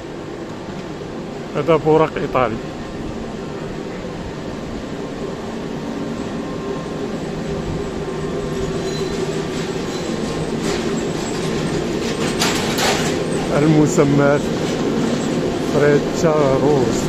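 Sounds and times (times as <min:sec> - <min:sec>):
high-speed train hum and rumble: 0:00.0 - 0:17.0.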